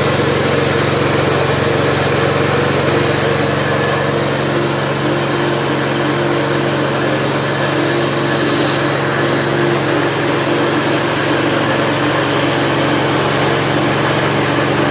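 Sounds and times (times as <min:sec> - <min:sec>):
engine drone: 0:00.0 - 0:14.9.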